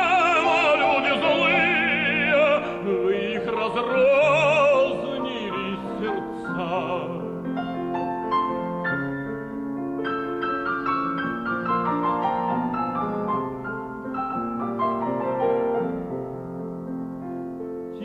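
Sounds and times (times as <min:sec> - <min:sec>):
piano playing: 0:00.0 - 0:18.0.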